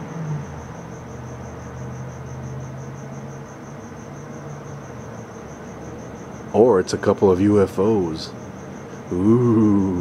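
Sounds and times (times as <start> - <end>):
crickets chirping: 0.0 - 10.0
steady low hum: 0.0 - 10.0.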